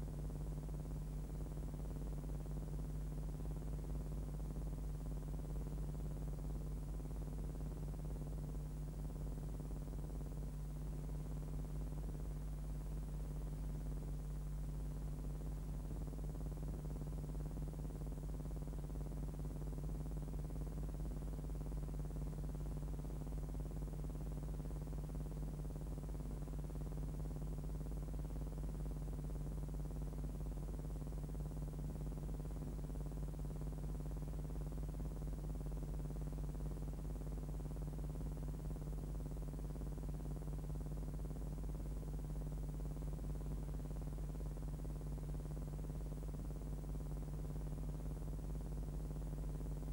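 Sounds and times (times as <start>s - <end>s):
low electrical hum with hiss: 0.0s - 49.9s.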